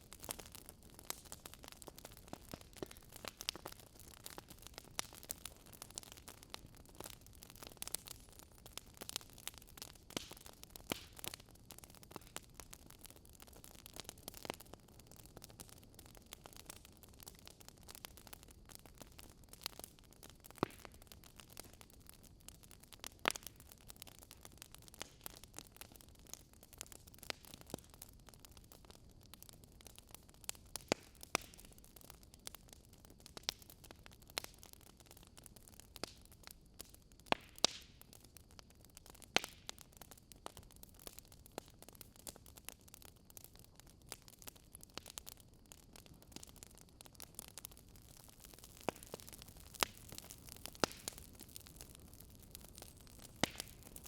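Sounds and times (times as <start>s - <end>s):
faint steady hiss: 0.0s - 54.0s
logs crackling and popping: 0.0s - 54.0s.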